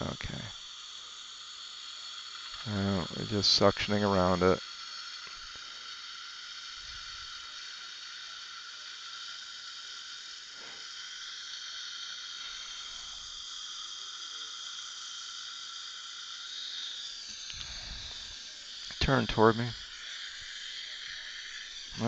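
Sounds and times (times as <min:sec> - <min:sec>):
suction tip hissing: 0:00.0 - 0:22.0.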